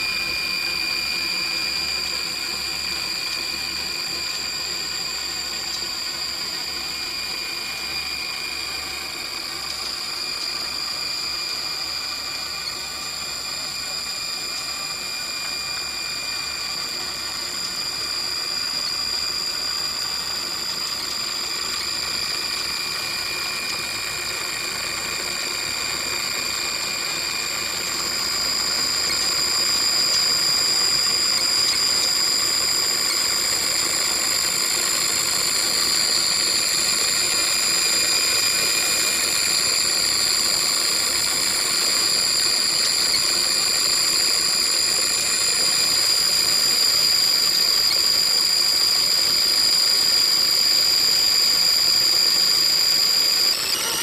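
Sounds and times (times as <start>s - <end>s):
electric motor high-pitched whine: 0.0s - 54.0s.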